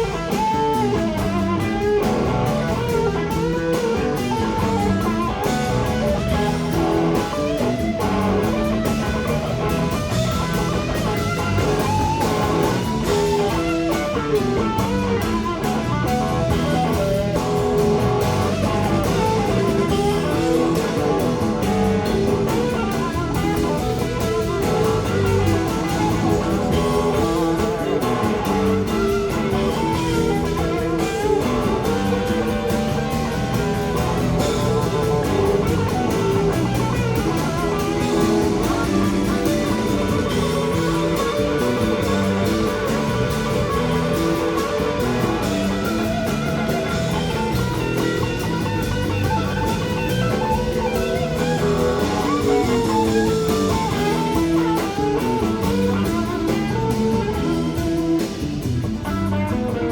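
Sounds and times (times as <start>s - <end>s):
electric guitar: 0.0s - 59.9s
live blues rock band: 0.0s - 59.9s.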